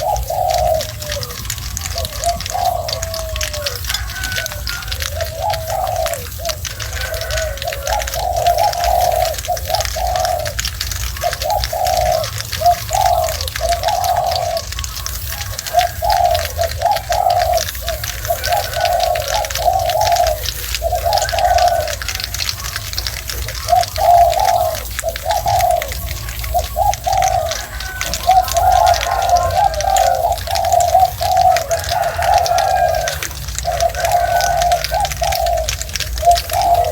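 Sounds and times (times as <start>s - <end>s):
hedgehog chewing with crunching: 0.0s - 36.9s.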